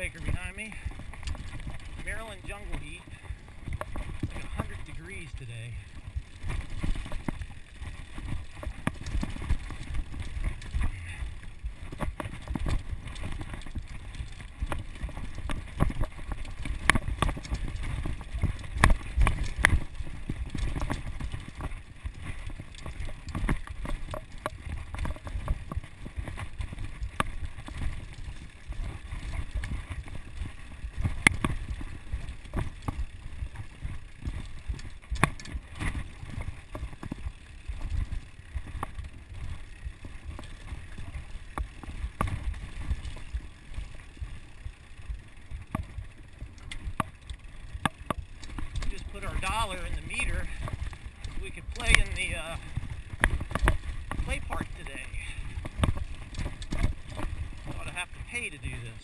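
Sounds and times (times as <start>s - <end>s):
bike clattering over bumps: 0.0s - 59.0s
bike tyres rumbling on dirt: 0.0s - 59.0s
wind: 0.0s - 59.0s.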